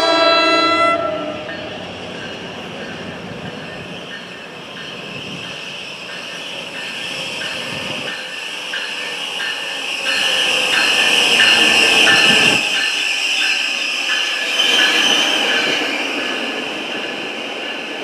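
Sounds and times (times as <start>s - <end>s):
train approaching on rails: 0.0s - 18.0s.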